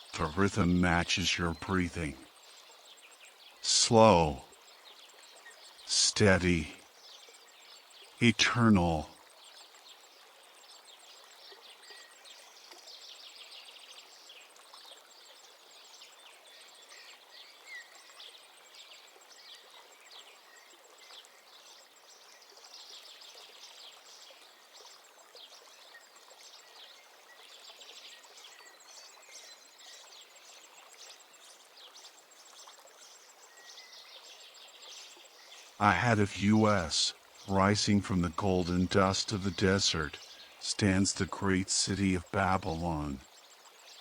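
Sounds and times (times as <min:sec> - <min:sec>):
running water hiss: 0:00.0 - 0:44.0
small birds chirping: 0:00.0 - 0:44.0.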